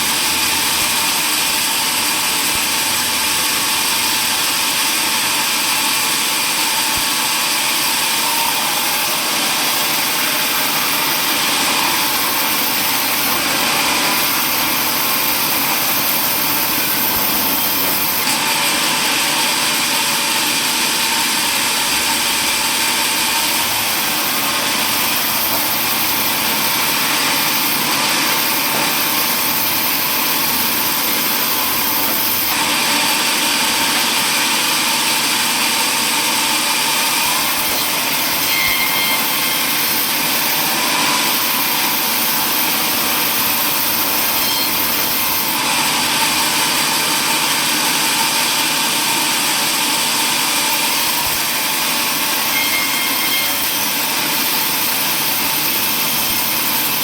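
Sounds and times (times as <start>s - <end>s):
power saw cutting wood: 0.0s - 57.0s.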